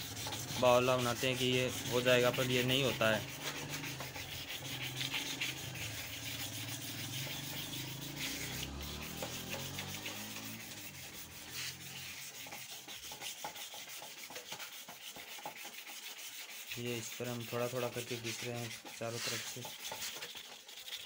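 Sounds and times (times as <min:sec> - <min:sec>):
sandpaper scratching on plastic: 0:00.0 - 0:21.0.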